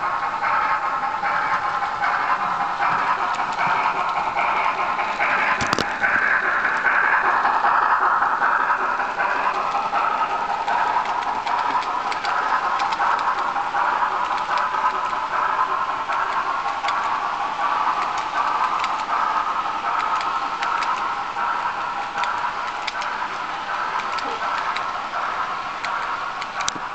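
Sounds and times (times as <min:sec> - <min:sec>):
model train wheels rumbling: 0:00.0 - 0:26.9.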